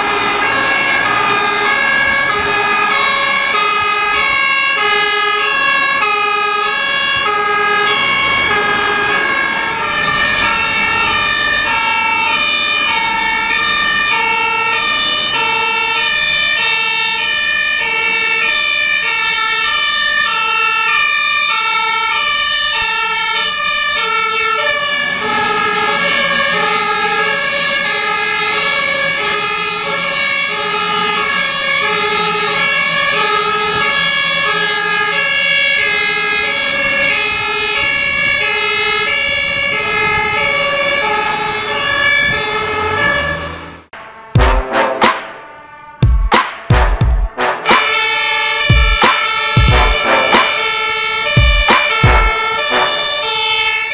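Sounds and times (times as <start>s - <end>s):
two-tone fire engine sirens: 0.0s - 53.9s.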